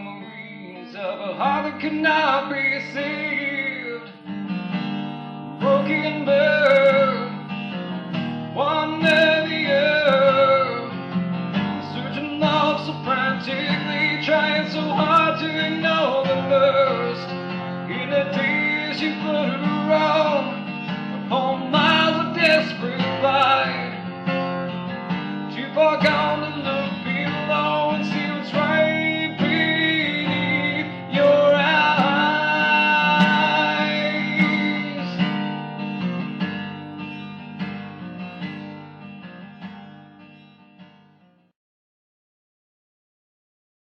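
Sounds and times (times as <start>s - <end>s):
acoustic guitar playing: 0.0s - 41.5s.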